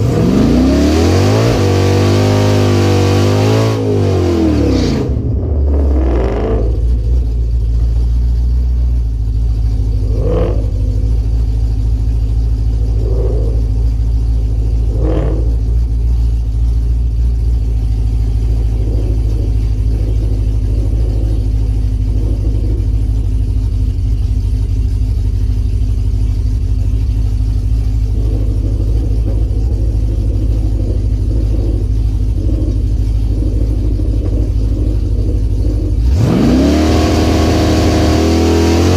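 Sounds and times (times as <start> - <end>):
engine idling with heavy rumble: 0.0 - 38.9
engine revving down: 0.0 - 38.9.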